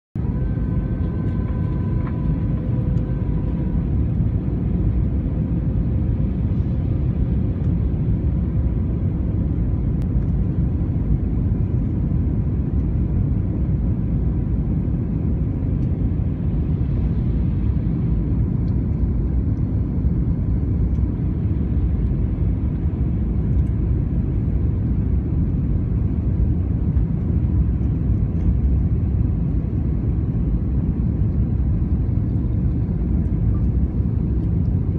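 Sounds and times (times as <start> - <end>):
airliner cabin rumble: 0.2 - 34.9.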